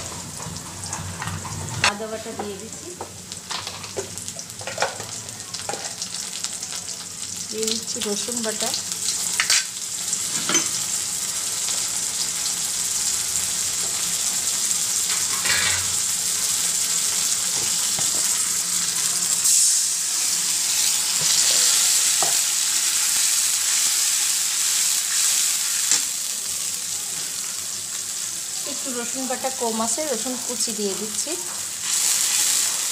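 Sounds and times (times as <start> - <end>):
onions sizzling in oil: 0.0 - 32.9.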